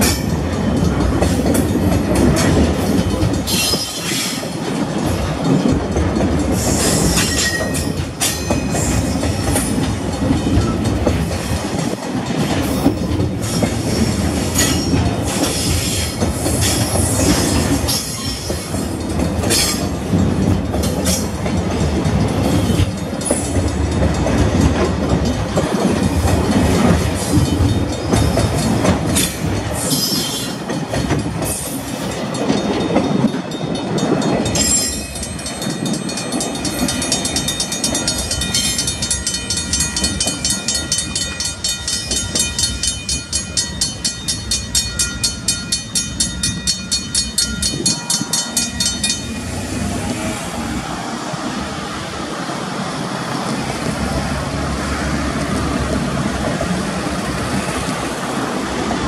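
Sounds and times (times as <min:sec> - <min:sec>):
train wheels clicking over rail joints: 0:00.0 - 0:50.1
train rumble: 0:00.0 - 0:59.0.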